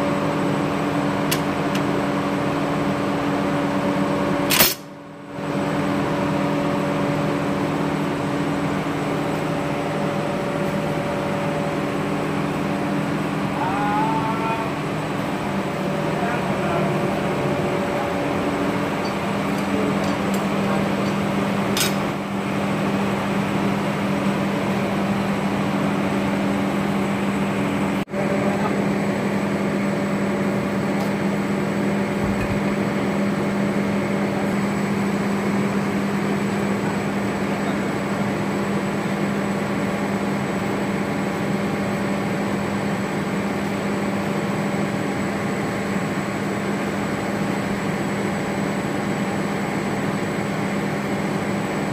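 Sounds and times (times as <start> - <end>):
machinery humming: 0.0 - 51.9.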